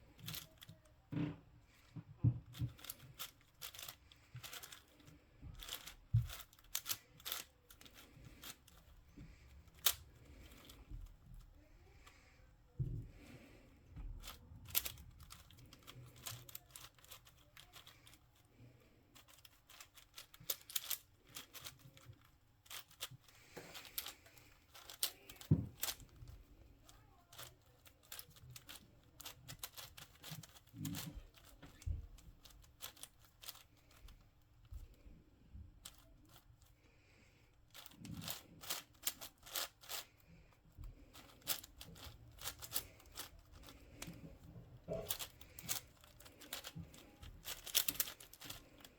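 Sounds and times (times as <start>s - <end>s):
speed cube layer turns clicking: 0.0s - 0.9s, 1.8s - 12.2s, 13.1s - 35.0s, 35.8s - 36.8s, 37.7s - 48.9s.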